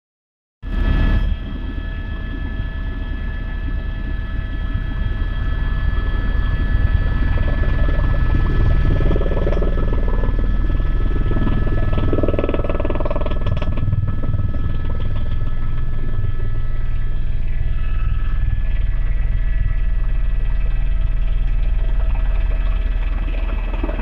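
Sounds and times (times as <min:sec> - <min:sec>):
high steady whine: 0:00.6 - 0:24.0
helicopter engine rumble: 0:00.7 - 0:24.0.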